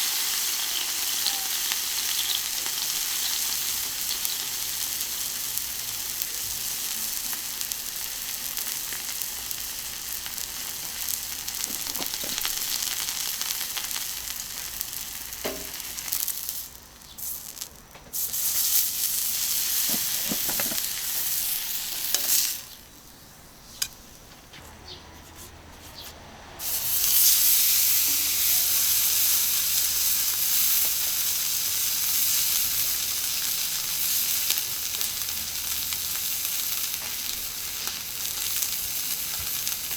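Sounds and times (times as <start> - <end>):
steak sizzling on a griddle: 0.0 - 23.2, 26.6 - 39.9.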